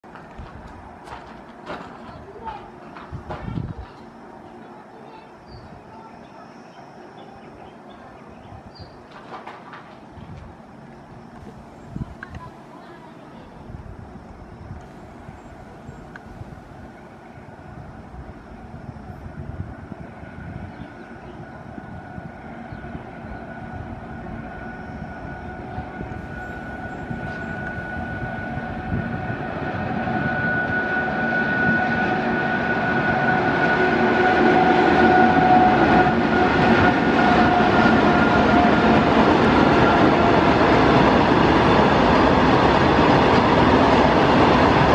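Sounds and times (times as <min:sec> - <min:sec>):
locomotive whine: 0:00.0 - 0:44.9
train wheels rumbling: 0:00.0 - 0:44.9.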